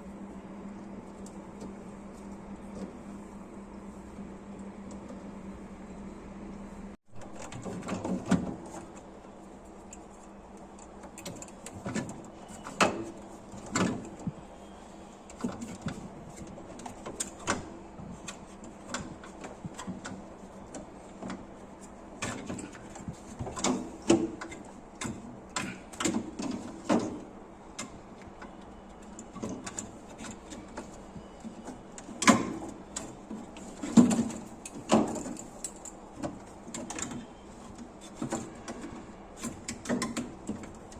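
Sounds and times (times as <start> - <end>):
faint steady hum: 0.0 - 40.9
knocks and clatter of handling: 7.2 - 40.9.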